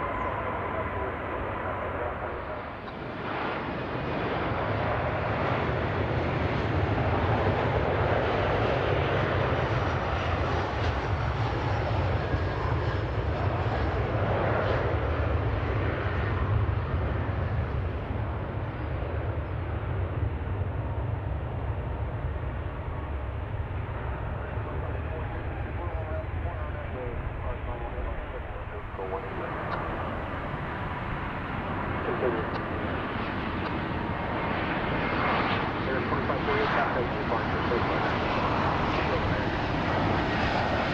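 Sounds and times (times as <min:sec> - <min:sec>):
aircraft engines rushing: 0:00.0 - 0:40.9.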